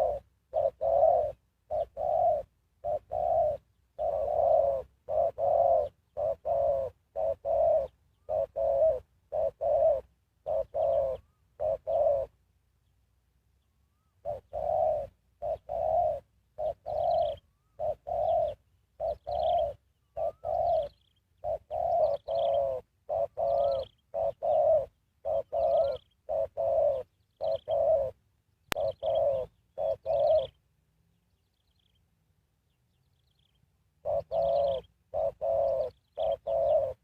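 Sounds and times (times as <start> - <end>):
dove cooing: 0.0 - 12.5, 13.9 - 30.6, 32.9 - 37.0.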